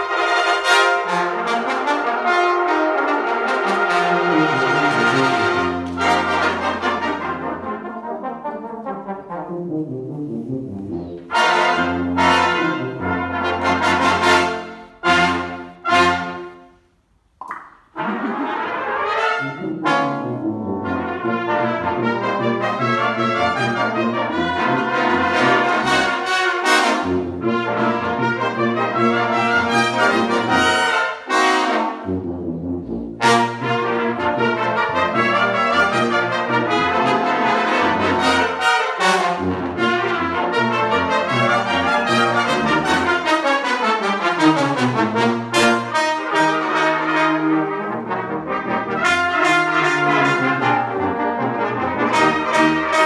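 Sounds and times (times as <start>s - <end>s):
brass band playing: 0.0s - 17.0s, 17.8s - 53.0s.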